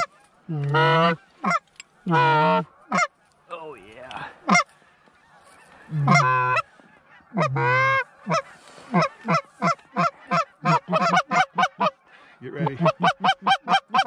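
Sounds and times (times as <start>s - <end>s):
goose clucks: 0.0s - 3.4s, 4.1s - 14.0s
geese honking: 0.0s - 3.5s, 4.1s - 14.0s.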